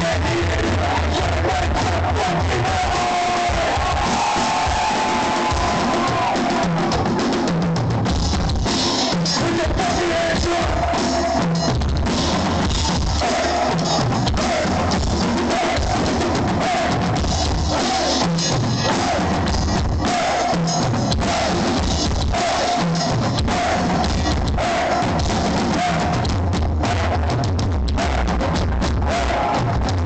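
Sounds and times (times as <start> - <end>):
heavy metal drum solo: 0.0 - 30.0.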